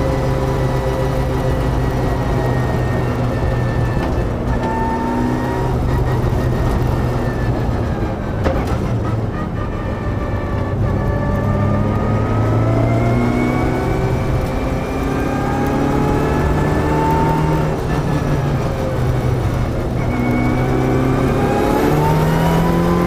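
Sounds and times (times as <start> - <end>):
car engine under hard driving: 0.0 - 23.0
road and drivetrain rumble: 0.0 - 23.0.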